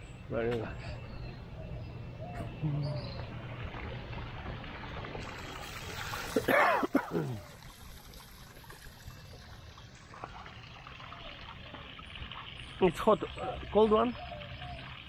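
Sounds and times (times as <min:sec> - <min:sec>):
water trickling: 0:02.9 - 0:15.0.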